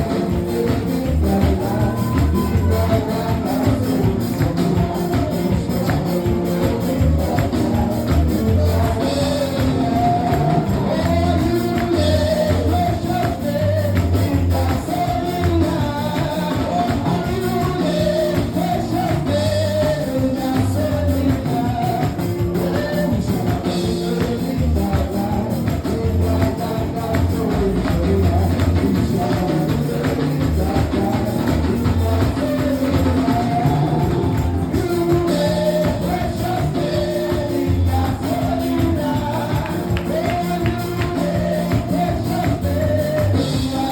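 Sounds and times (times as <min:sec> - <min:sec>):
band with bass: 0:00.0 - 0:43.9
tambourine beat: 0:00.0 - 0:43.9
voices singing gospel: 0:00.0 - 0:43.9.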